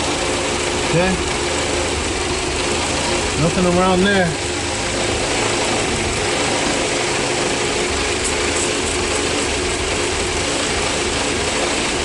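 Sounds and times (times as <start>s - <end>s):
car engine idling rough: 0.0s - 12.0s.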